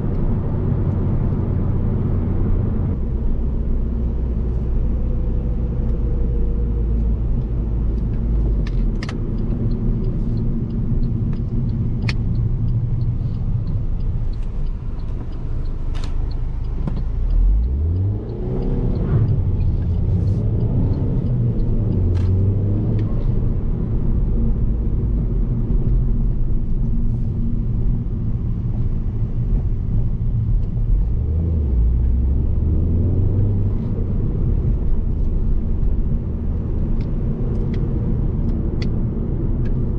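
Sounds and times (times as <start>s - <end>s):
car engine hum: 0.0s - 39.9s
tyre and road noise: 0.0s - 39.9s.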